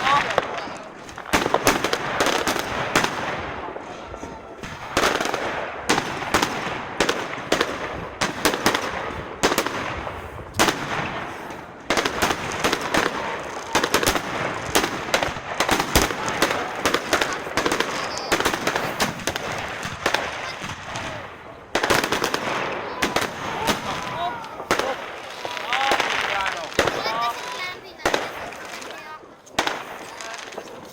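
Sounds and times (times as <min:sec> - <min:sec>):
fireworks crackle: 0:00.0 - 0:30.9
fireworks exploding bangs: 0:00.0 - 0:30.9.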